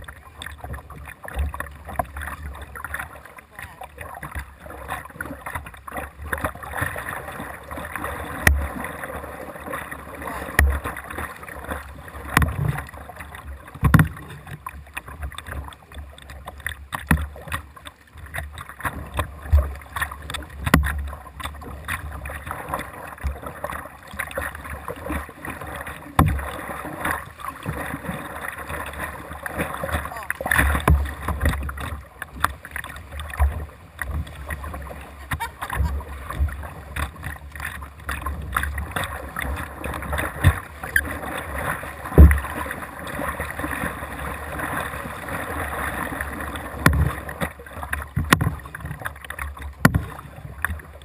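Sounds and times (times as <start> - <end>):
kayak paddle splashing water: 0.0 - 51.0.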